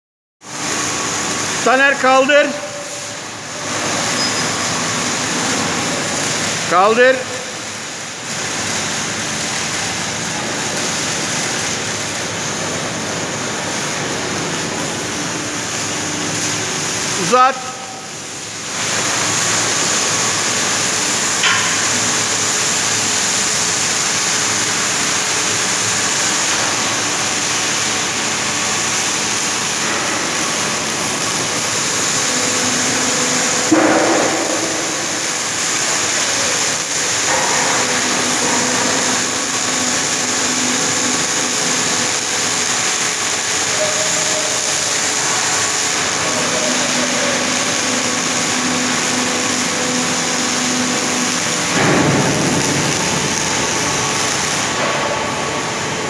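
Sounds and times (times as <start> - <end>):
hydraulic crane drive running: 0.5 - 56.0.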